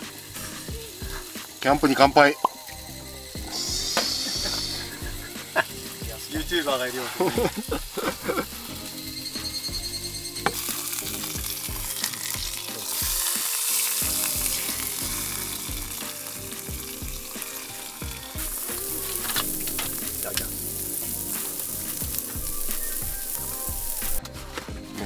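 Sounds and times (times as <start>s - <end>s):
meat sizzling on a griddle: 0.0s - 24.2s.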